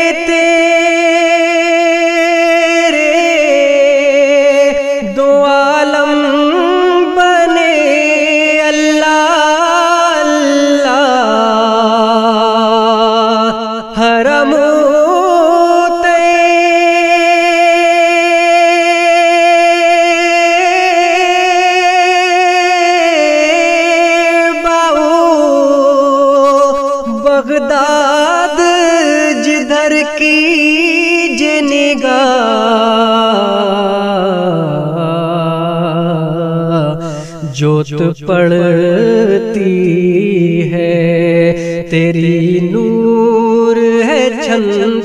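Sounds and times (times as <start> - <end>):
wordless devotional singing: 0.0 - 45.0.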